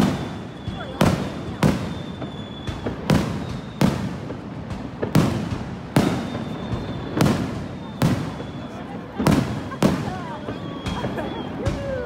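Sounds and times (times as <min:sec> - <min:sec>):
small firework pops: 0:00.0 - 0:12.0.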